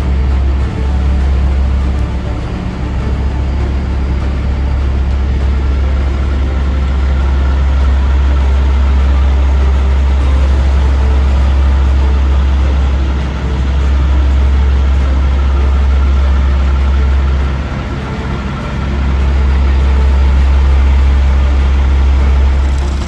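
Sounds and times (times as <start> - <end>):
diesel machinery humming: 0.0 - 23.0.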